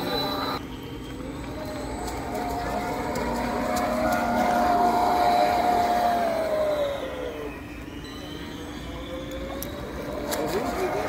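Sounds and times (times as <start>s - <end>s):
model boat motor whine: 0.0s - 11.0s.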